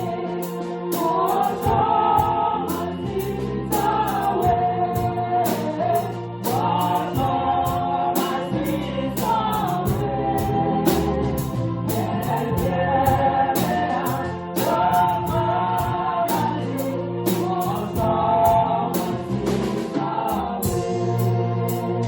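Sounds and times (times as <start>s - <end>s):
bass line: 0.0s - 22.0s
choir singing gospel: 0.0s - 22.0s
drum or cymbal strikes: 0.0s - 22.0s.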